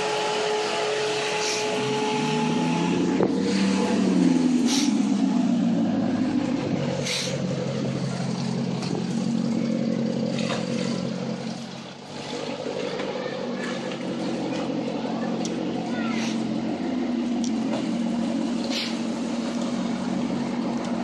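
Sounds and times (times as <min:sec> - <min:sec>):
car exhaust burbling: 0:00.0 - 0:21.0.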